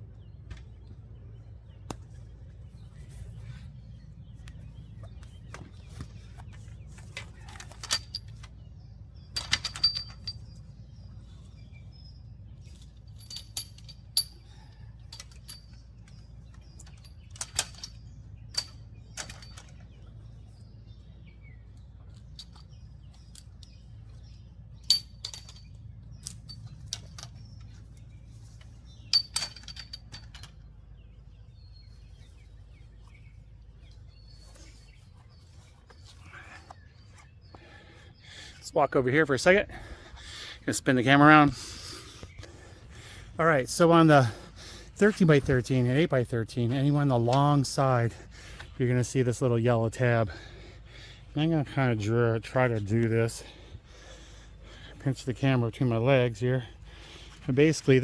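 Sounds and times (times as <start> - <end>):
low steady rumble: 0.0 - 58.0
metal poles clinking: 4.3 - 38.0, 40.8 - 58.0.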